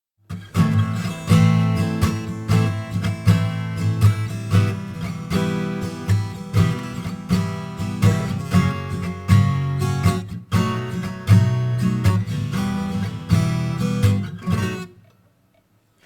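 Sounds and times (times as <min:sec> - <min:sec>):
acoustic guitar strumming chords: 0:00.3 - 0:15.0.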